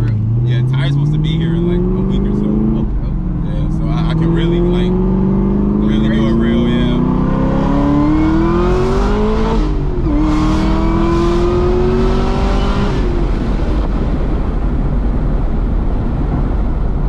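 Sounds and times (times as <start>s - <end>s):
car engine revving under full throttle: 0.0s - 17.0s
road noise: 0.0s - 17.0s.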